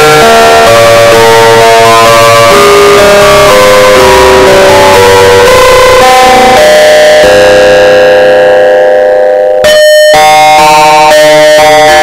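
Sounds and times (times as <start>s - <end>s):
distorted synthesizer alarm: 0.0s - 12.0s.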